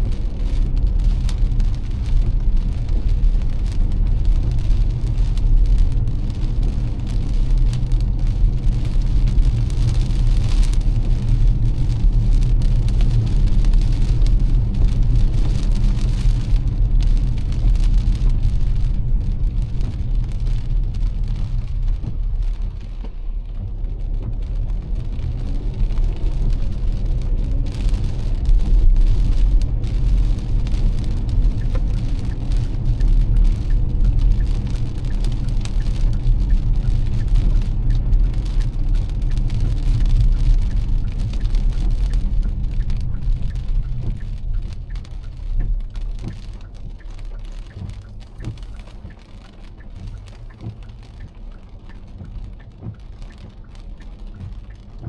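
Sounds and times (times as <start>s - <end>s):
car engine rumble: 0.0s - 55.0s
heavy rain pattering on car: 0.0s - 55.0s
tyres on wet road: 0.0s - 55.0s.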